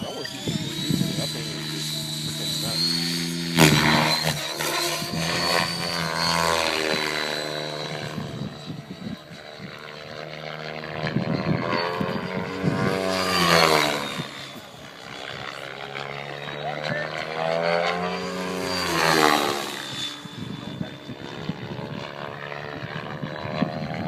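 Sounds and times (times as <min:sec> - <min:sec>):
rc helicopter rotor buzzing: 0:00.0 - 0:24.0
thin high whine: 0:00.0 - 0:24.0.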